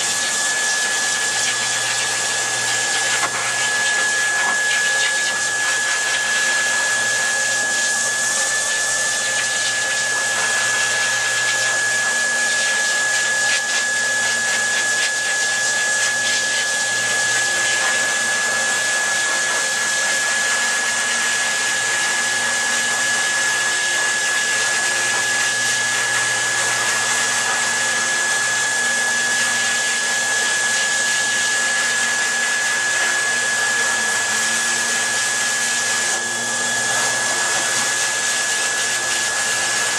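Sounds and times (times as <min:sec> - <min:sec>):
high motor whine: 0:00.0 - 0:39.9
rushing air from dryer: 0:00.0 - 0:39.9.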